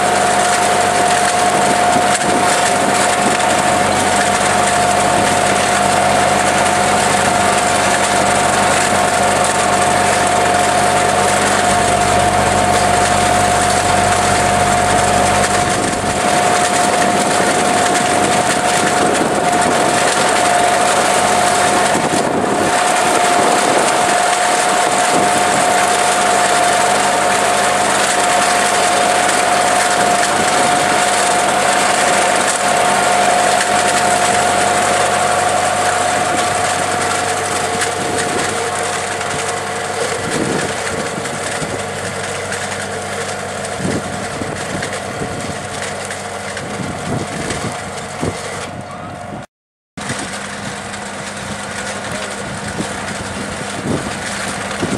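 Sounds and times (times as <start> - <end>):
tractor engine running: 0.0 - 49.4, 50.0 - 54.9
high machine whine: 0.0 - 54.9.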